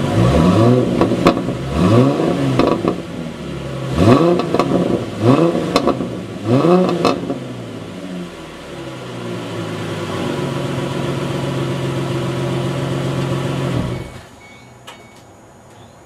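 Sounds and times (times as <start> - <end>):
car engine exhaust revving: 0.0 - 14.2.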